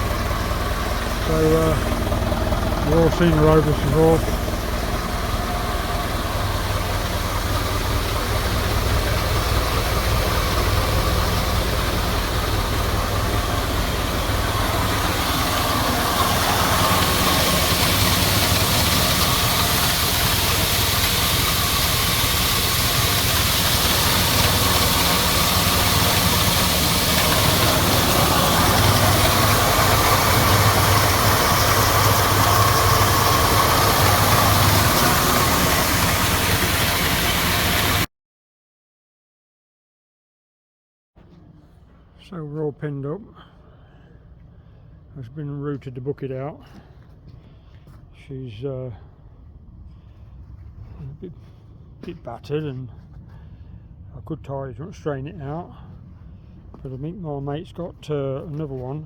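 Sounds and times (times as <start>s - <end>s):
vehicle engine running: 0.0s - 38.1s, 41.2s - 59.0s.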